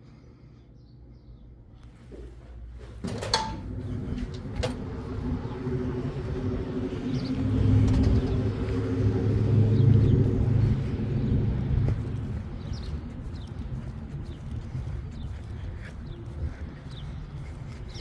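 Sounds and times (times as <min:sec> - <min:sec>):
vehicle engine running: 0:03.4 - 0:18.0.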